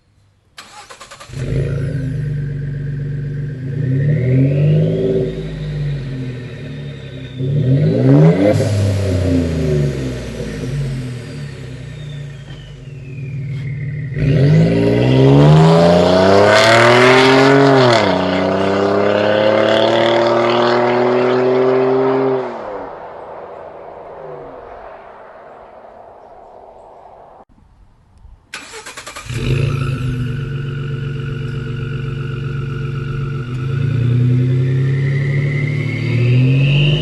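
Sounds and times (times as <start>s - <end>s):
car engine revving through exhaust: 1.2s - 24.6s, 29.2s - 37.0s.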